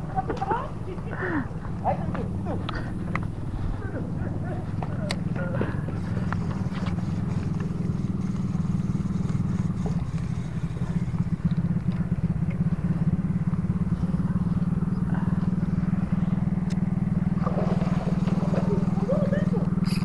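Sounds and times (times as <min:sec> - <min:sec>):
small engine droning: 0:00.0 - 0:20.0.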